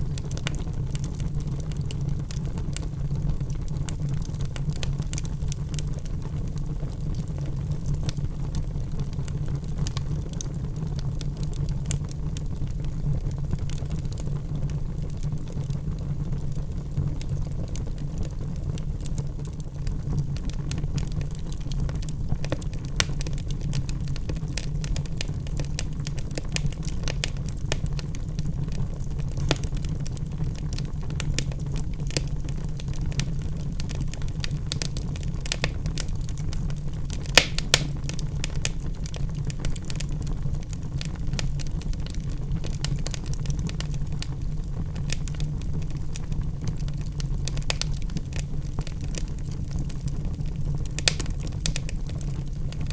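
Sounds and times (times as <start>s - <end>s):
low rumble of flames: 0.0s - 52.9s
wood crackling and popping: 0.0s - 52.9s.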